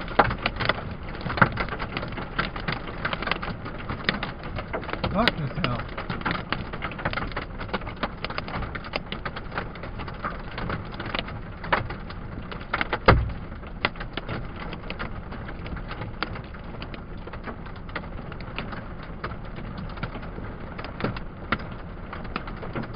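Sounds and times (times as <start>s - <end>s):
hail pelting a truck: 0.0s - 22.9s.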